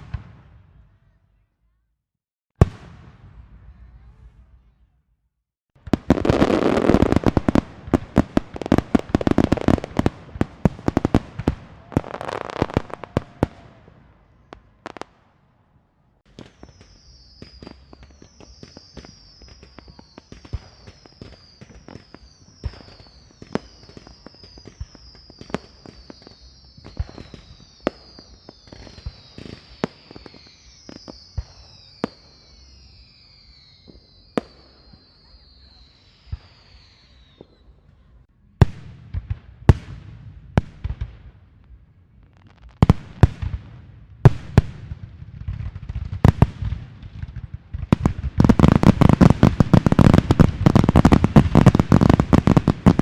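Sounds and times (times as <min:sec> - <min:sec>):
firecracker bangs and crackles: 0:00.0 - 0:00.9, 0:02.6 - 0:04.7, 0:05.8 - 0:15.4, 0:16.2 - 0:37.6, 0:38.6 - 0:41.7, 0:42.3 - 0:53.0.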